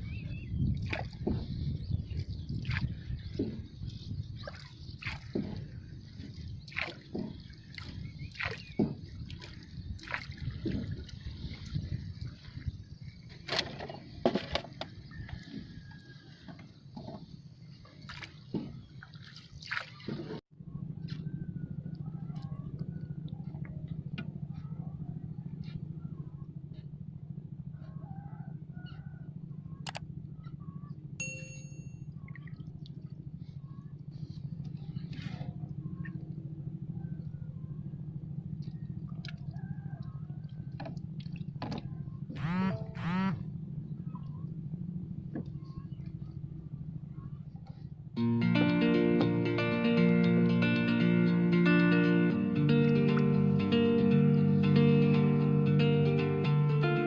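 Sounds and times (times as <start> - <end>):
low motor hum: 0.0 - 57.0.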